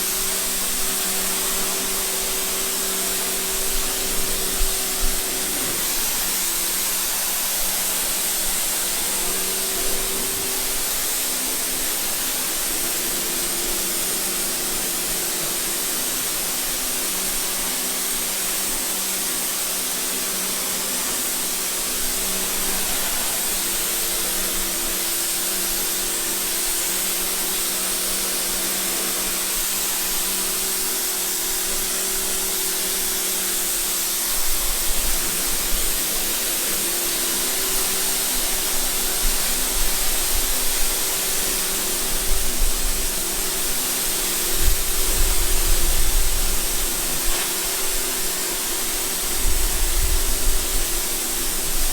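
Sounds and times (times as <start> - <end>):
water spraying: 0.0 - 51.9.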